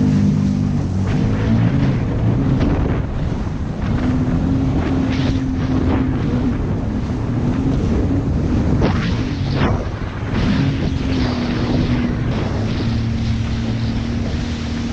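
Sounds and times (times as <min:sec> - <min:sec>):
jet ski engine hum: 0:00.0 - 0:14.9
water rushing: 0:00.0 - 0:14.9
wind buffeting microphone: 0:00.0 - 0:14.9.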